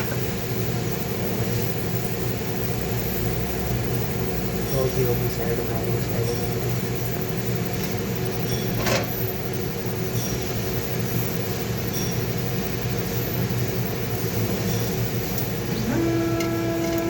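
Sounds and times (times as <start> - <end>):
three d printer motors humming: 0.0 - 17.0.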